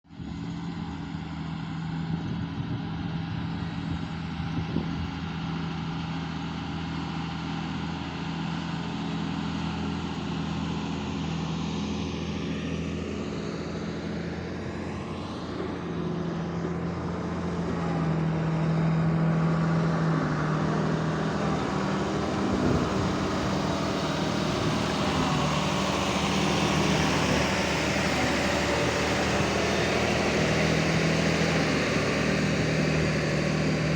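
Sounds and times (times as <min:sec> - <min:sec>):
heavy diesel engines running: 0:00.1 - 0:33.9.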